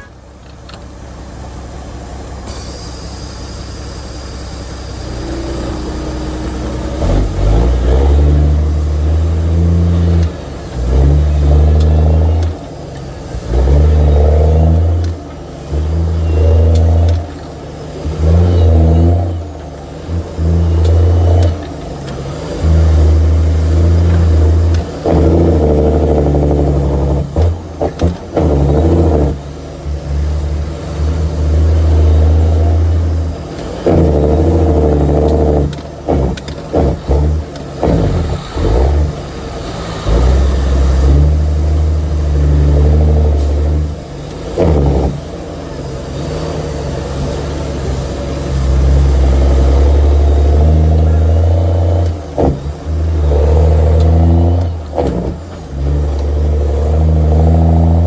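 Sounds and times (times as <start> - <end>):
truck diesel engine pulling hard: 0.0 - 58.0.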